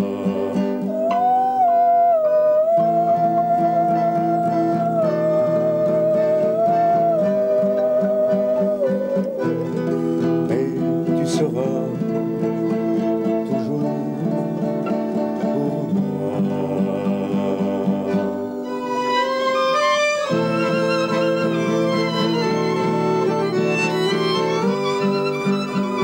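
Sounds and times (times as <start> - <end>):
acoustic guitar rhythm: 0.0 - 26.0
higher wavering melody: 0.0 - 26.0
instruments holding long notes: 0.0 - 26.0.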